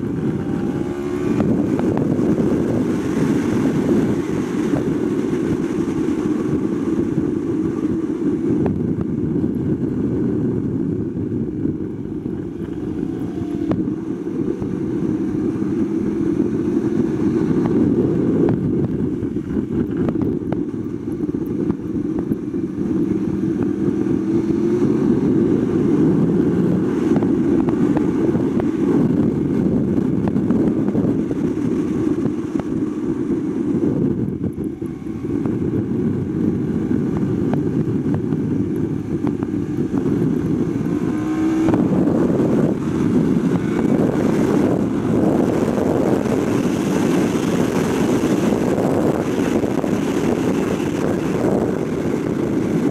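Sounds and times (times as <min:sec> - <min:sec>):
motorcycle engine at speed: 0:00.0 - 0:52.9
wind rush over microphone: 0:00.0 - 0:52.9.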